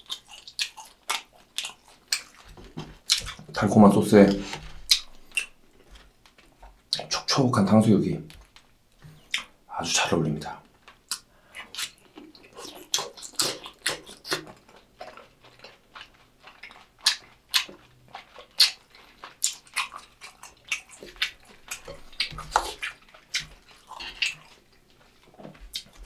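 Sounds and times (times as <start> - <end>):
close-miked wet chewing: 0.0 - 26.0.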